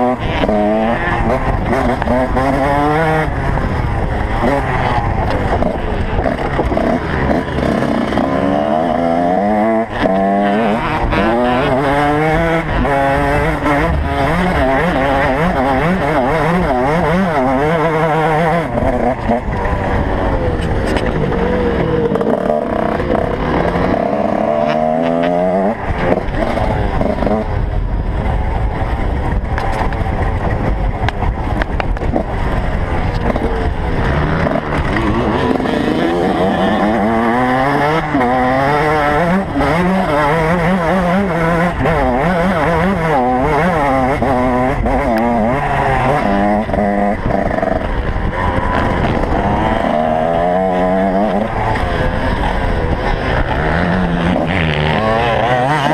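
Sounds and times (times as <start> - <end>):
motorcycle engines revving: 0.0 - 55.9.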